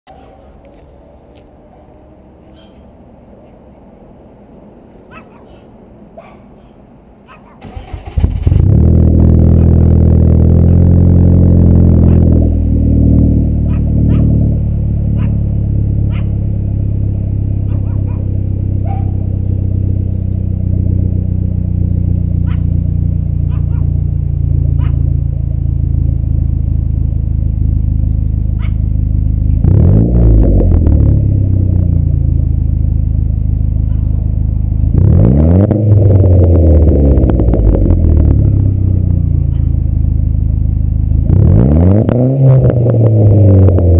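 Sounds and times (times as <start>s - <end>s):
car engine idling and revving: 7.6s - 43.9s.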